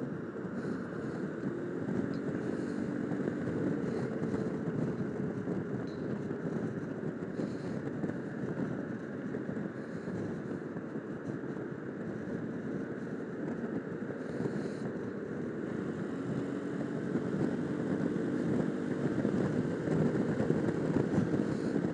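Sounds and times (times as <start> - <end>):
scooter engine drone: 0.0 - 21.9
wind rushing over microphone: 0.0 - 21.9.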